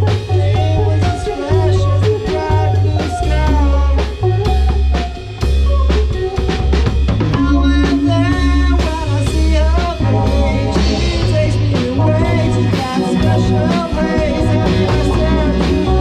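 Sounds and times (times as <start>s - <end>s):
person singing into a microphone: 0.0s - 5.2s, 7.3s - 16.0s
drum kit beat: 0.0s - 16.0s
electric guitars: 0.0s - 16.0s.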